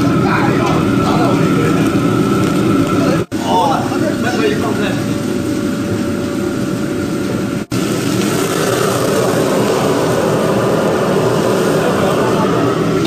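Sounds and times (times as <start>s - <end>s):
fish sizzling in oil: 0.0s - 13.0s
gas burner roaring: 0.0s - 13.0s.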